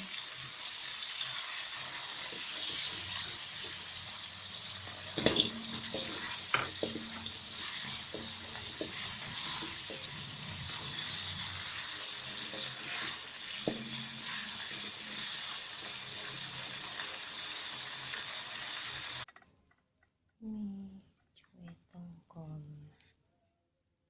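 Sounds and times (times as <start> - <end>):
food sizzling in frying pan: 0.0 - 19.3.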